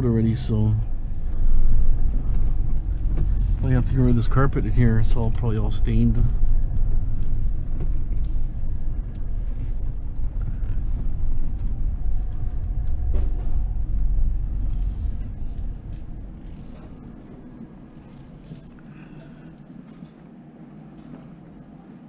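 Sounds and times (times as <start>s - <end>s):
minivan rumbling over rough ground: 0.0s - 22.0s.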